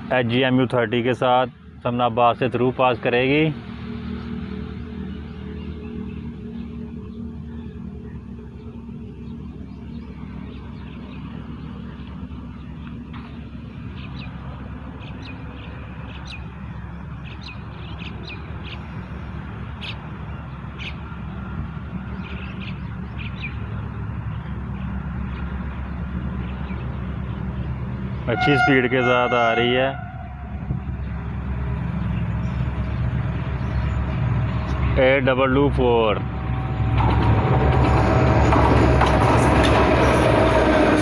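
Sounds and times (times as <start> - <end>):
birds chirping: 0.0 - 41.0
diesel locomotive rumble: 0.0 - 41.0.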